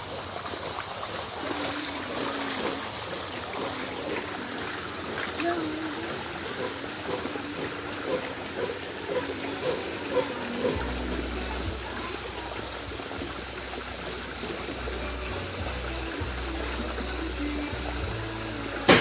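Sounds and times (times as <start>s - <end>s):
water running in stream: 0.0s - 19.0s.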